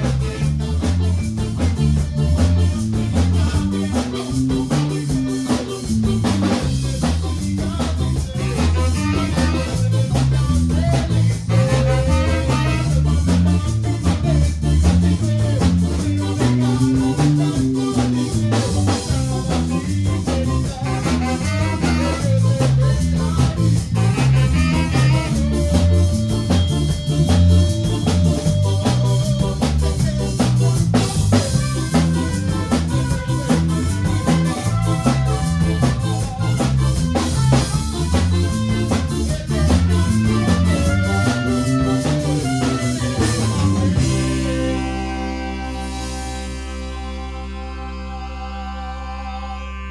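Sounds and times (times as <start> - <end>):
drum kit beat: 0.0 - 46.9
bass line: 0.0 - 49.9
guitar: 0.0 - 49.9
instrumental ska band music: 0.0 - 49.9.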